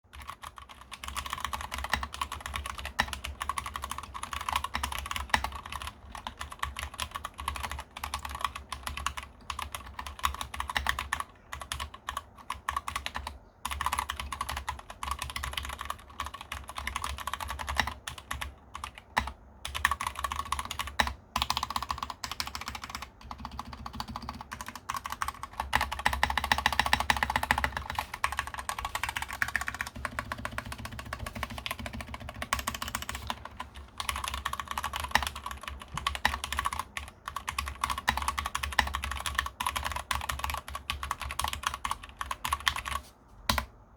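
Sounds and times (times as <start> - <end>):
mechanical keyboard typing: 0.1 - 43.7.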